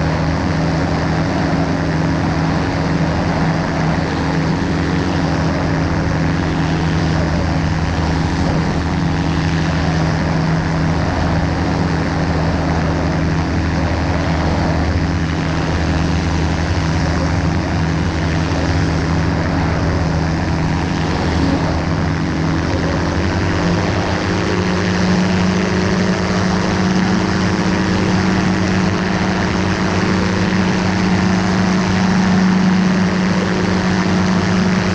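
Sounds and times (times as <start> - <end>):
aircraft engine and propeller: 0.0 - 34.9.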